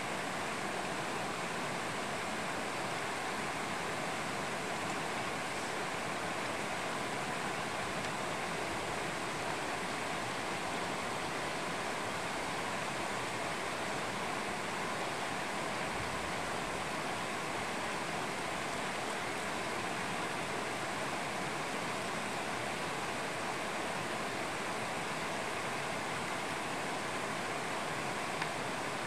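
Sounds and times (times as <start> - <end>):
stream running over stones: 0.0 - 29.0.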